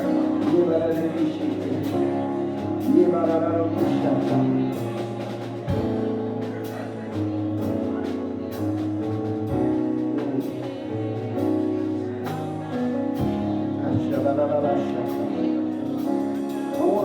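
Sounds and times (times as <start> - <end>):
person singing: 0.0 - 8.9, 9.7 - 17.0
keyboard playing held chords: 0.0 - 17.0.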